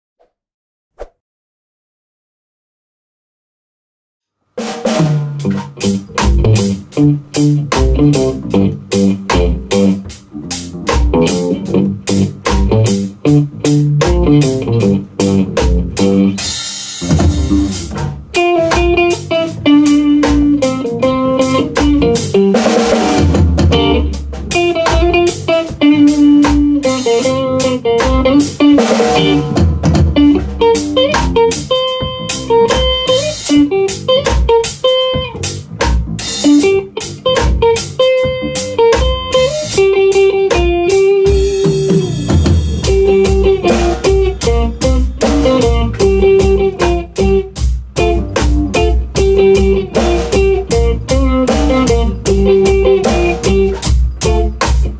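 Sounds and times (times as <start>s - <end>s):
drums beating: 4.6s - 54.9s
rock band playing: 4.6s - 54.9s.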